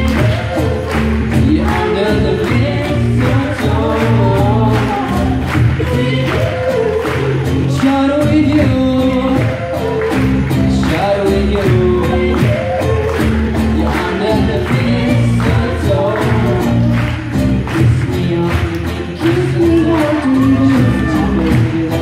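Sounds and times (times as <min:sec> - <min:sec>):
acoustic guitars: 0:00.0 - 0:22.0
bass guitar: 0:00.0 - 0:22.0
cajon beat: 0:00.0 - 0:22.0
voices singing: 0:00.0 - 0:22.0.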